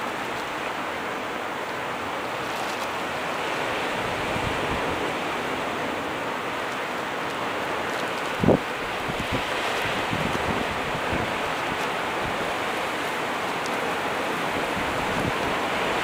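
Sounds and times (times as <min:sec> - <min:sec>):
sea surf rushing: 0:00.0 - 0:16.0
wind: 0:00.0 - 0:16.0.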